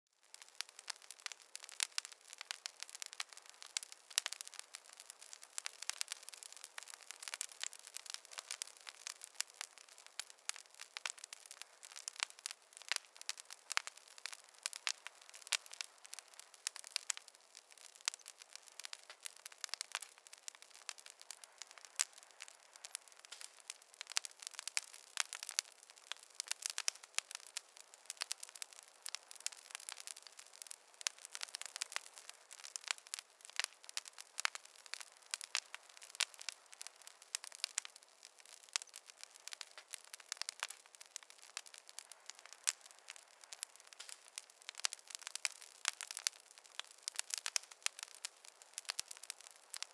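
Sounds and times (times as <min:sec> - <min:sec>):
campfire crackling: 0:00.2 - 0:49.9
faint hiss: 0:00.2 - 0:49.9.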